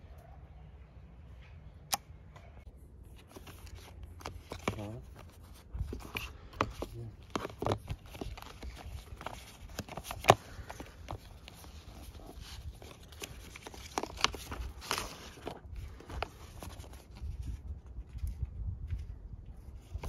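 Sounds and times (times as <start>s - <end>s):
paper and card rustling: 2.7s - 20.0s.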